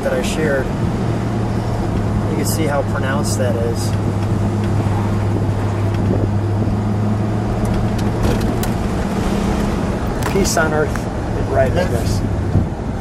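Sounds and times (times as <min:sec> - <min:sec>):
car engine humming: 0:00.0 - 0:13.0
road noise: 0:00.0 - 0:13.0
wind: 0:00.0 - 0:13.0.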